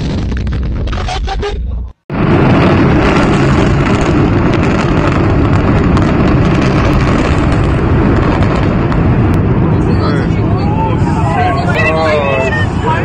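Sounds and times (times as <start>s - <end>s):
building collapse rumble: 0.0s - 13.0s
explosive charges crackling: 0.0s - 13.0s.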